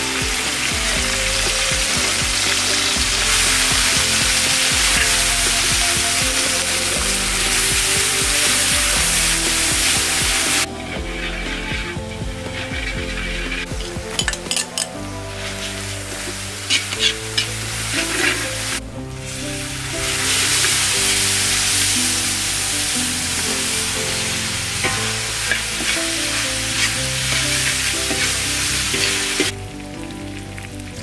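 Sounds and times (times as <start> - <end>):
metal ladle scraping wok: 0.0 - 29.6
chili paste sizzling in oil: 0.0 - 31.0
soft background music: 0.0 - 31.0.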